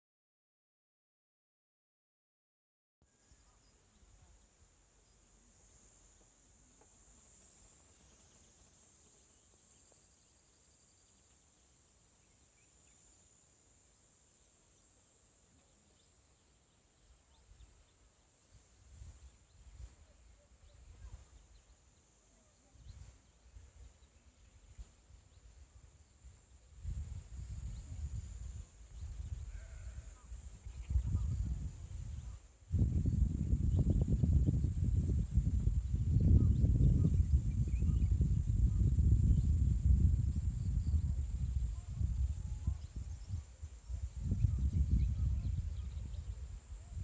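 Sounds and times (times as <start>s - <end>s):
insects chirring: 3.3s - 47.0s.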